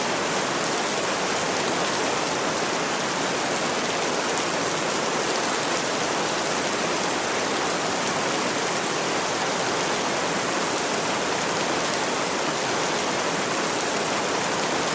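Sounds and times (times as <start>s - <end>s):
rain on a roof: 0.0s - 14.9s.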